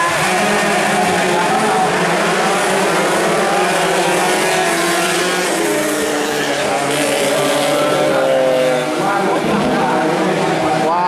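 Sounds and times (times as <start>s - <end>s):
racing motorcycles revving: 0.0s - 11.0s.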